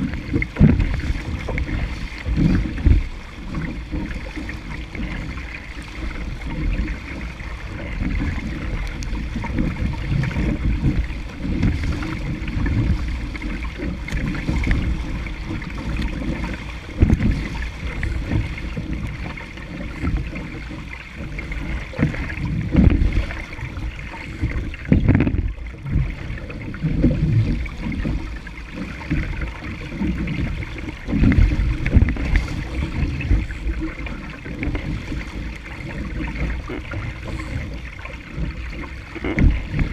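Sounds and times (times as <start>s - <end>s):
water splashing along a hull: 0.0s - 39.9s
wind buffeting microphone: 0.0s - 39.9s.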